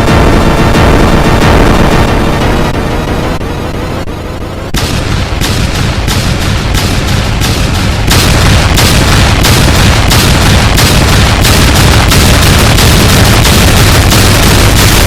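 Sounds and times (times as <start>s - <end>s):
harsh clipped digital noise: 0.0s - 15.0s.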